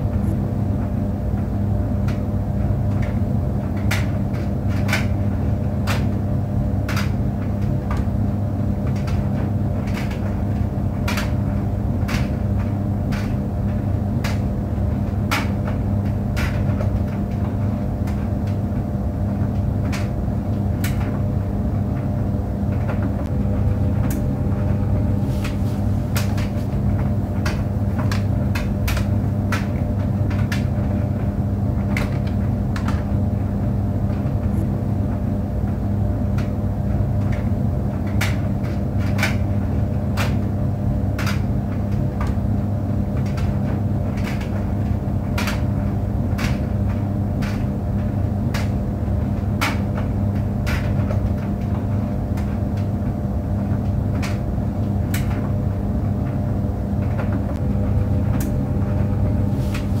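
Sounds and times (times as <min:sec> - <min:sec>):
clothes dryer humming: 0:00.0 - 1:00.0.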